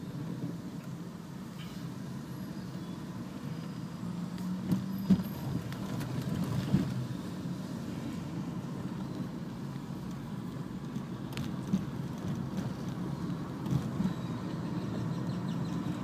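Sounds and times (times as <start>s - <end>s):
engine and tyres hum: 0.0s - 16.0s.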